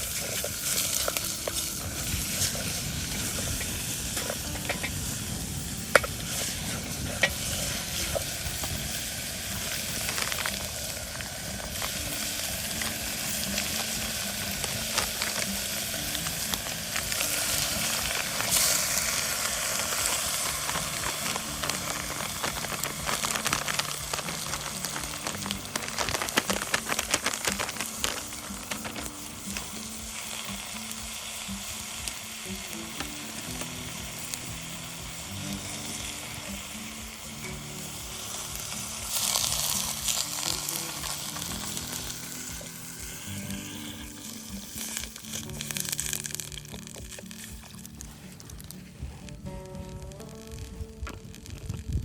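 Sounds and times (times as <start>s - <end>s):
sharp pops from fire: 0.0s - 52.0s
wood fire crackling: 0.0s - 52.0s.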